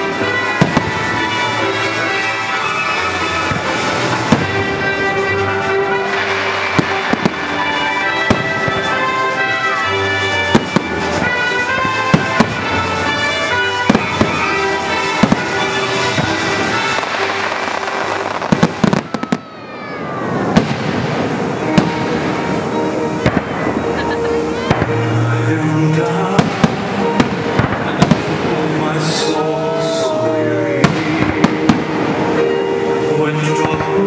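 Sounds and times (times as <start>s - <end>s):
fireworks bursting with bangs: 0.0s - 34.0s
loud music: 0.0s - 34.0s.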